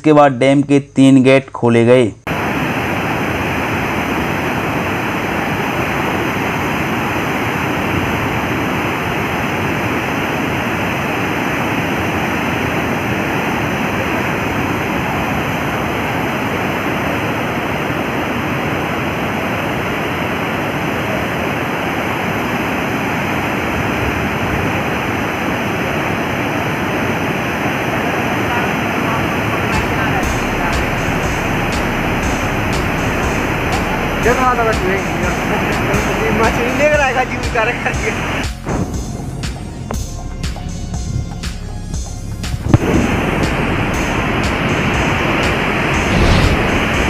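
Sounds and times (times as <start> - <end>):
water rushing from dam gates: 2.3 - 38.6, 42.7 - 46.1.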